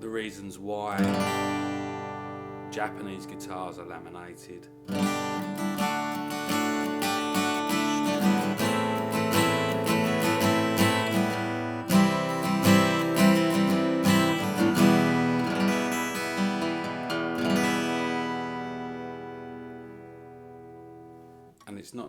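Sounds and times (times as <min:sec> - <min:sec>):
acoustic guitar playing: 0:00.0 - 0:21.6.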